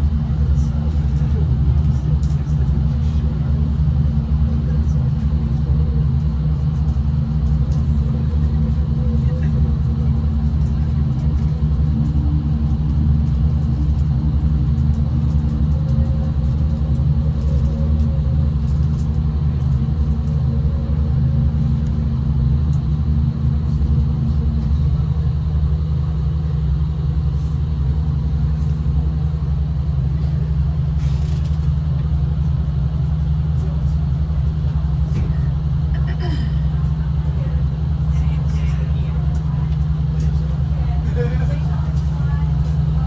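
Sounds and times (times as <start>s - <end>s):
train engine hum: 0.0s - 43.0s
train rumbling: 0.0s - 43.0s.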